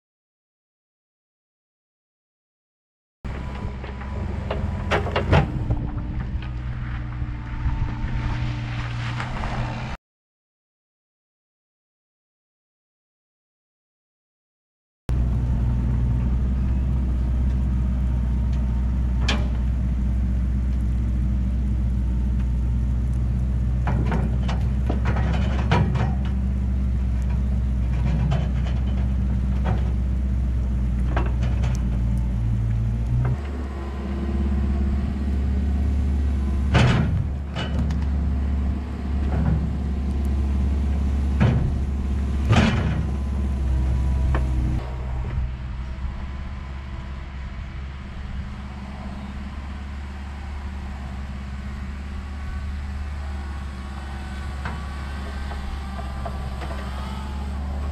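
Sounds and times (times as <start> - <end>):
diesel engine running: 3.3 - 9.9, 15.1 - 57.9.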